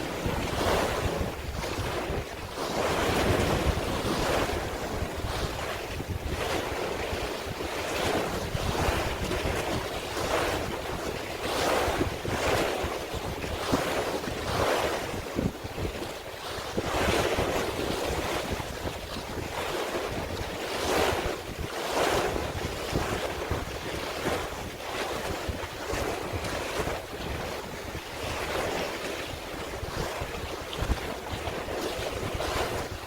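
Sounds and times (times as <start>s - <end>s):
sea waves washing: 0.0s - 33.0s
wind buffeting microphone: 0.0s - 33.0s.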